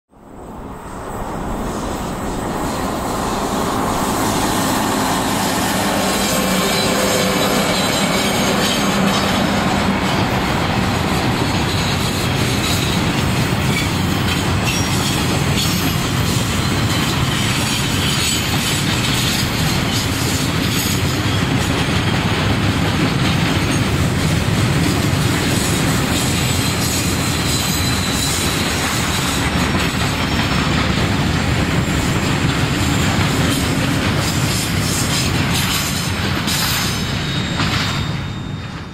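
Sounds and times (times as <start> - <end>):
electric locomotive passing: 0.1 - 38.9
train wheels rumbling on rail: 0.1 - 38.9.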